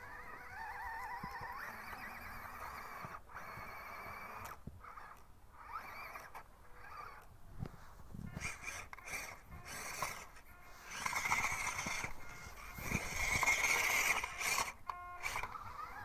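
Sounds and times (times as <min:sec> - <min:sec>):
rc car motor whining: 0:00.0 - 0:16.0.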